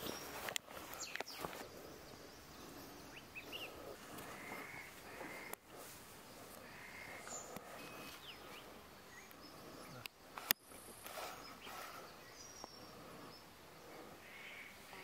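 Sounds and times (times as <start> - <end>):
faint bird chirps: 0.0 - 5.6, 6.4 - 15.0
low steady hiss: 0.0 - 15.0.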